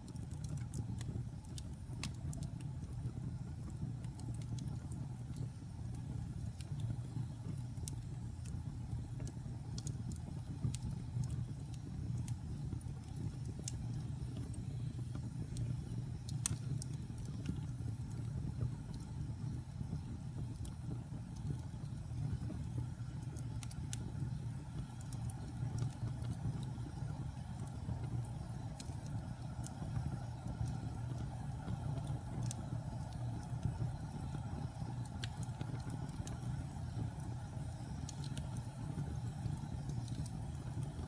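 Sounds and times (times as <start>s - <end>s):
fire crackles and pops: 0.0s - 41.0s
wood fire rumbling: 0.0s - 41.0s.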